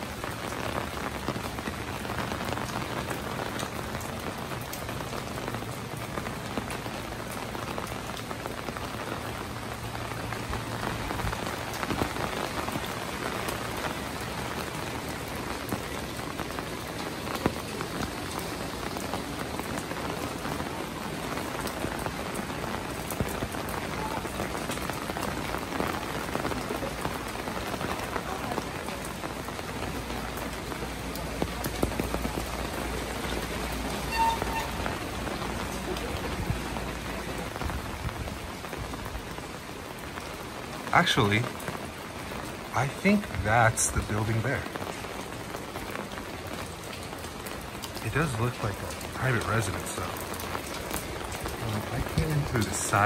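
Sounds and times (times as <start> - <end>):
raindrop clicks: 0.0 - 53.0
steady rain: 0.0 - 53.0.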